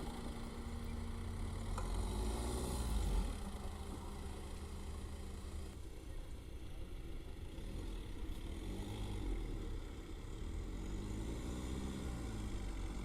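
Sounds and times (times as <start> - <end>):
diesel engine revving: 0.0 - 5.8, 7.5 - 13.0.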